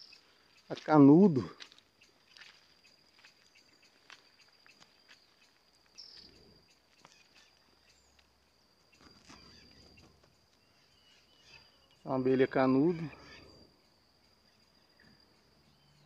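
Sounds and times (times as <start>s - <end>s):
high insect trill: 0.0s - 16.0s.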